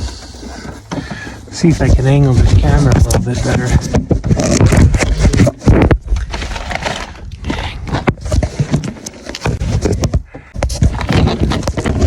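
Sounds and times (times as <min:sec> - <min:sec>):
camera handling knocks and rubs: 0:00.0 - 0:07.0, 0:07.8 - 0:12.0.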